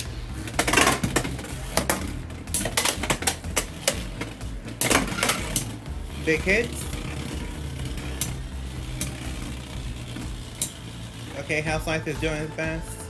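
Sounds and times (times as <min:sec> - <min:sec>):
spinning tops clacking: 0:00.0 - 0:12.6
background music: 0:00.0 - 0:13.0.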